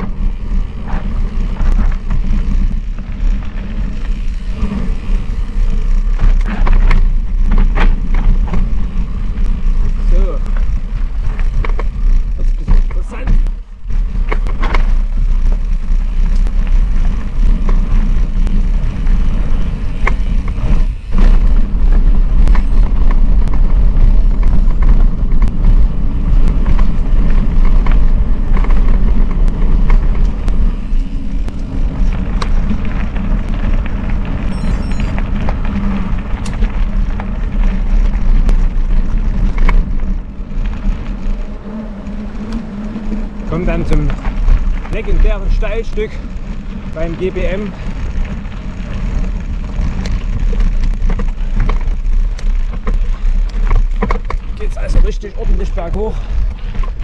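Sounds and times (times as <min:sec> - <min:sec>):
bike rattling clicks: 0:00.0 - 0:57.0
wind and tyre rumble: 0:00.0 - 0:57.0.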